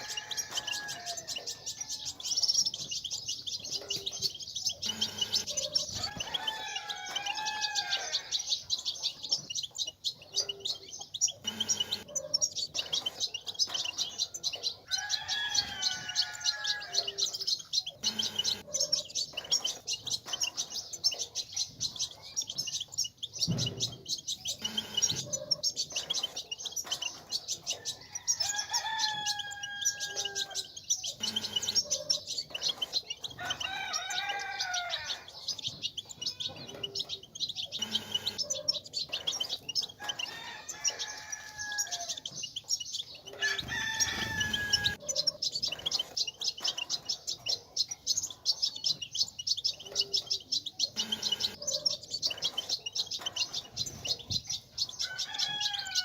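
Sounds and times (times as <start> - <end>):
finch twittering: 0.0 - 56.0.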